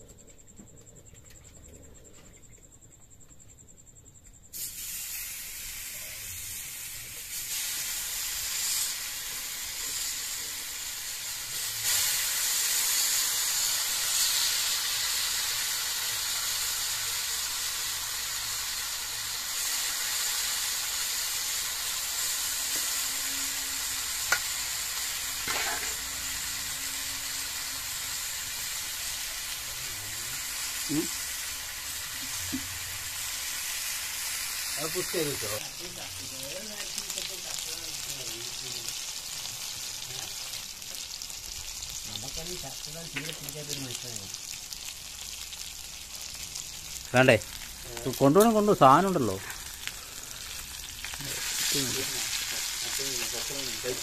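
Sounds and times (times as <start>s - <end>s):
fish sizzling in frying pan: 4.5s - 54.0s.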